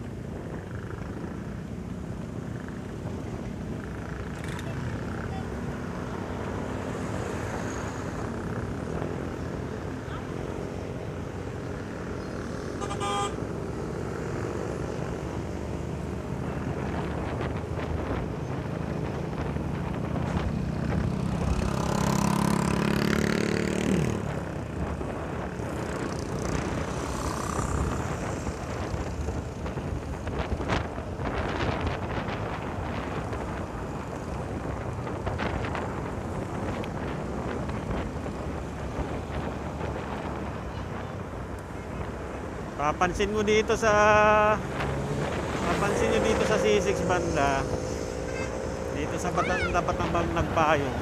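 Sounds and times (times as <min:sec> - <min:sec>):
motorcycle engine hum: 0:00.0 - 0:51.0
passing vehicle: 0:00.0 - 0:51.0
road and wind noise: 0:00.0 - 0:51.0.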